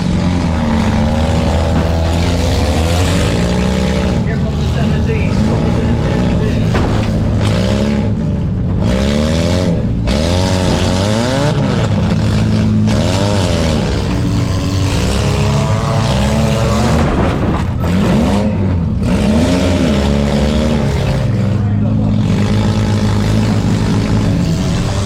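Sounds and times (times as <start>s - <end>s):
car engines revving: 0.0s - 25.0s
low engine drone: 0.0s - 25.0s.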